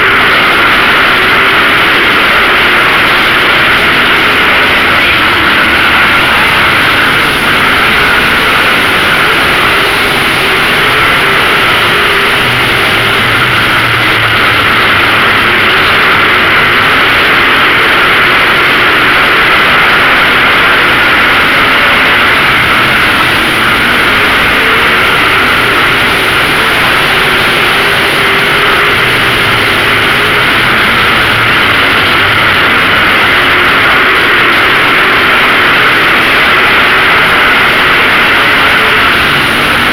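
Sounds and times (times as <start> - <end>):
race car engines roaring: 0.0 - 39.9.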